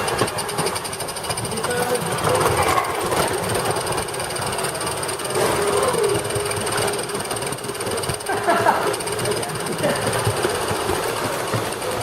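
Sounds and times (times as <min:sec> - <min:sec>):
faint voices: 0:01.4 - 0:12.0.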